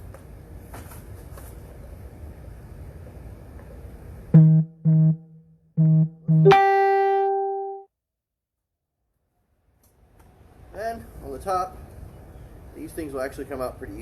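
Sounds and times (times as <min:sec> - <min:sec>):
faint outdoor background noise: 0:00.0 - 0:06.4, 0:09.2 - 0:14.0.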